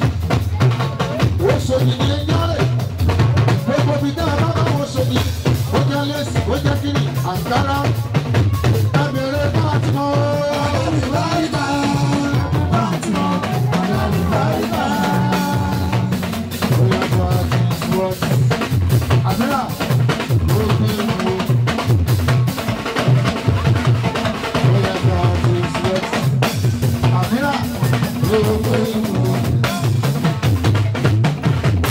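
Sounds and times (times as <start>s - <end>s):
drum kit beating: 0.0s - 31.9s
live band music: 0.0s - 31.9s
man singing through a microphone: 1.0s - 21.8s, 24.5s - 30.4s.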